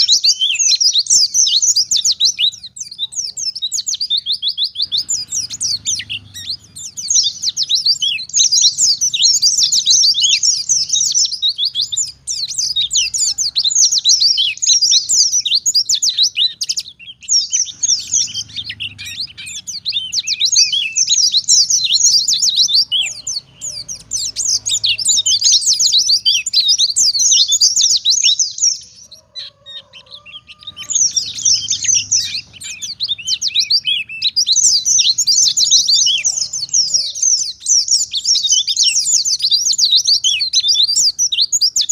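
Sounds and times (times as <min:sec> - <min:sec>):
bird twittering song: 0:00.0 - 0:41.9.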